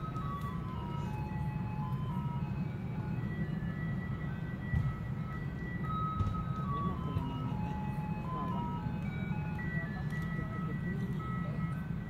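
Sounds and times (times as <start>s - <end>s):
chiming melody: 0.0s - 12.0s.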